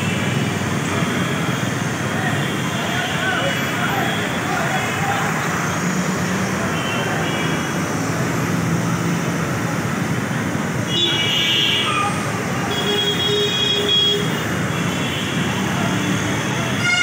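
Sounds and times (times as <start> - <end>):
traffic and crowd din: 0.0 - 17.0.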